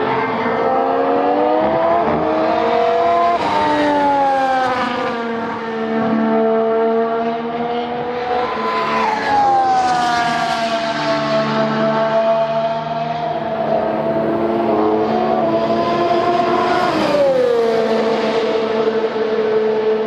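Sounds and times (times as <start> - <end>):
race car engine accelerating: 0.0 - 20.0.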